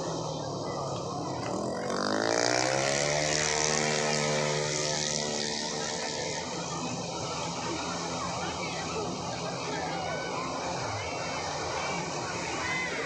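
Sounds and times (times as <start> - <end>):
scooter engine accelerating: 0.0 - 13.0
steady engine hum: 0.0 - 13.0.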